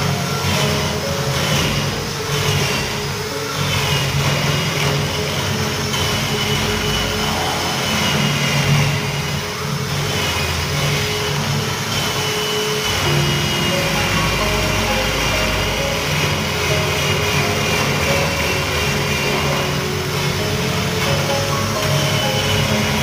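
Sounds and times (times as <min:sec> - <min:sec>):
electric drill boring into wood: 0:00.0 - 0:23.0.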